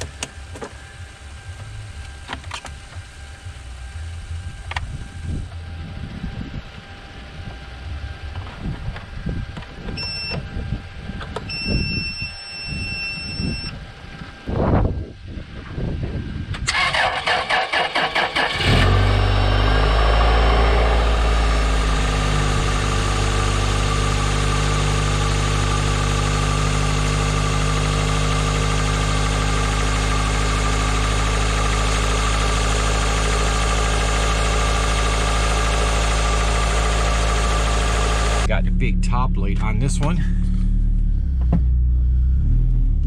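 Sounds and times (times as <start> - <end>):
truck engine cranking and idling: 0.0 - 43.0.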